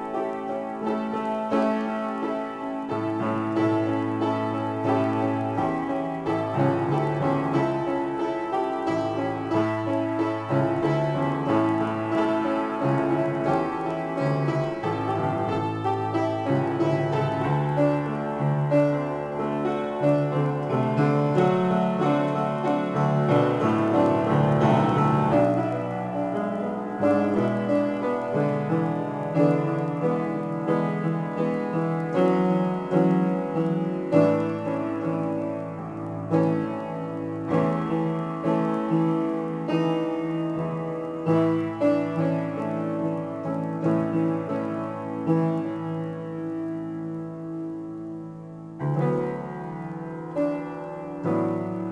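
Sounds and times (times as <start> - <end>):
solo piano chords: 0.0 - 51.9.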